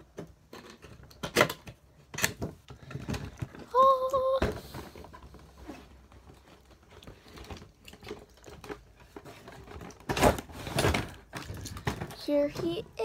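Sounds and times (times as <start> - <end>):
plastic scraping and crinkling: 0.1 - 13.0.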